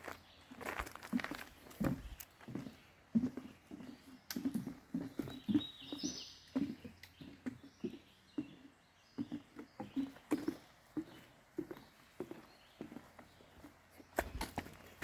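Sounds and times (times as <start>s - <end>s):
footsteps on forest trail: 0.0s - 15.0s.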